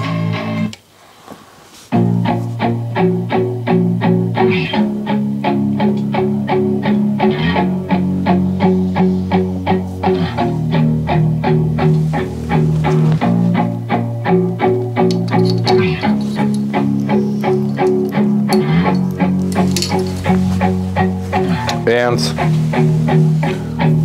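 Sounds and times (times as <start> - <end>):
music with quick pulse of notes: 1.9 - 24.0.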